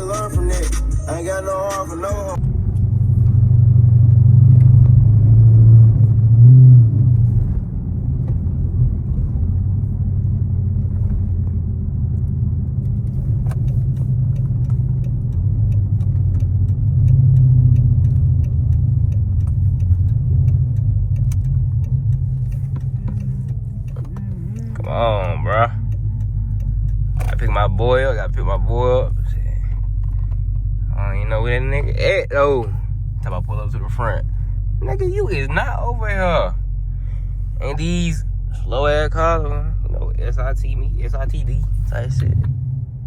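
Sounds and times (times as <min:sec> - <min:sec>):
car engine deep drone: 0:00.0 - 0:43.0.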